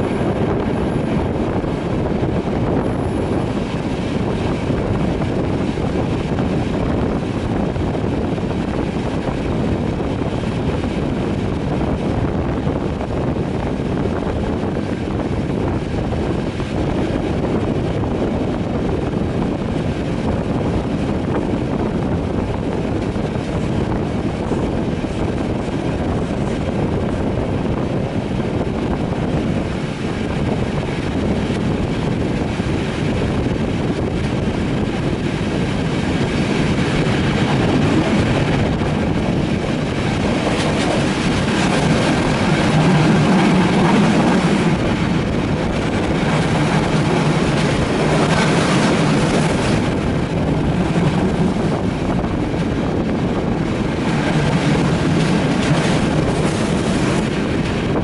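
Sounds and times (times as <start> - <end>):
train running noise: 0.0 - 58.0
wind buffeting microphone: 0.0 - 58.0.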